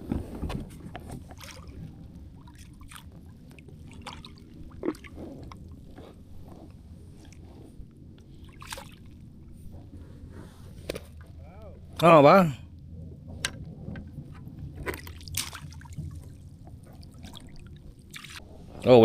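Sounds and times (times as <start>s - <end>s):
water sloshing and dripping: 0.7s - 10.0s, 10.8s - 19.0s.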